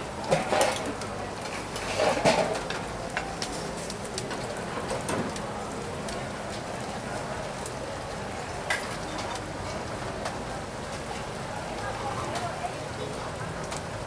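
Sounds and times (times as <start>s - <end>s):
charcoal stoves hissing and crackling: 0.0s - 14.0s.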